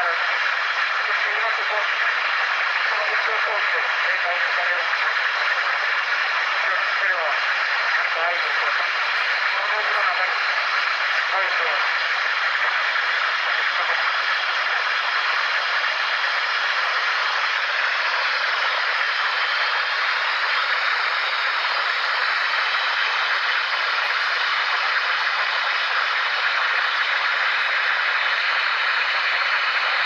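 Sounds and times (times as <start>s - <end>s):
white-noise static hiss: 0.0s - 30.0s.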